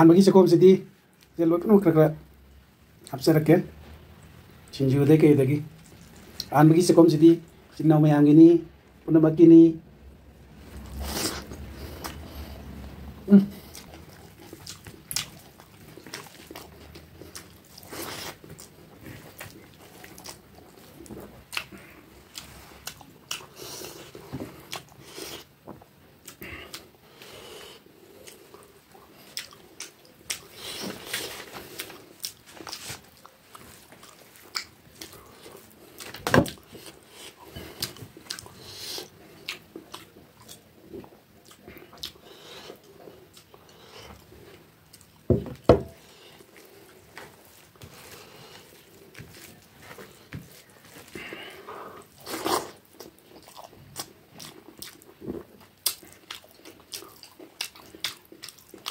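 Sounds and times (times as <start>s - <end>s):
person chewing food: 5.8s - 6.5s, 10.6s - 58.9s.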